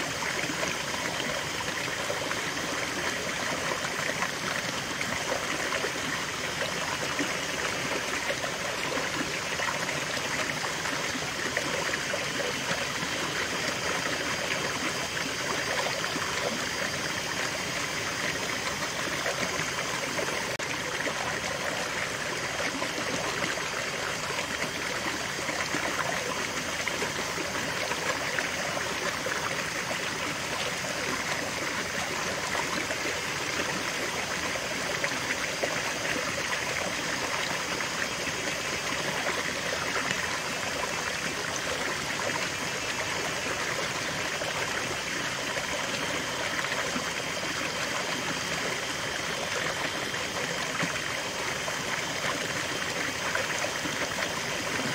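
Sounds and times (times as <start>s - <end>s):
stream water cascading: 0.0s - 54.9s.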